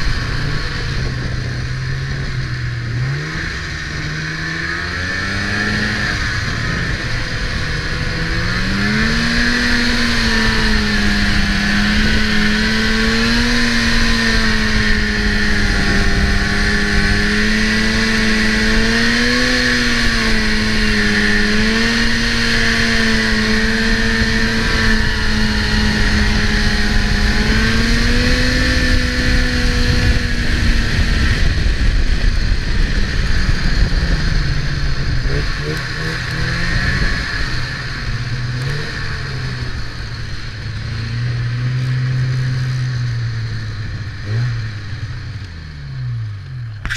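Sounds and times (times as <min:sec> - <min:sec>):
heavy low rumble: 0:00.0 - 0:46.9
snowmobile engine running: 0:00.0 - 0:46.9.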